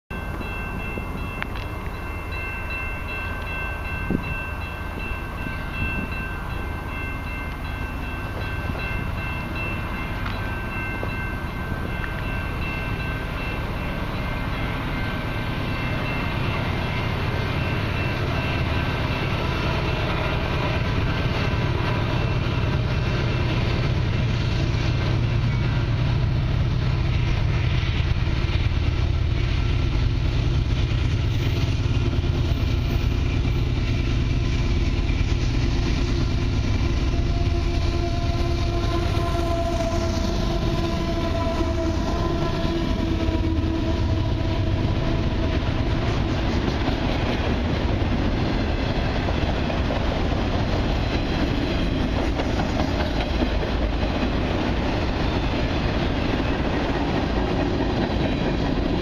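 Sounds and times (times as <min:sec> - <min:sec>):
diesel locomotives rumbling: 0:00.1 - 0:59.0.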